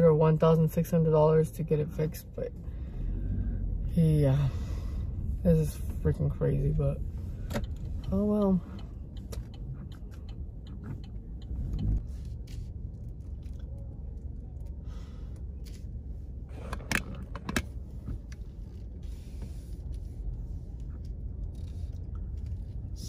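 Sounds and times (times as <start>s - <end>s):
car cabin rumble: 0.0s - 23.0s.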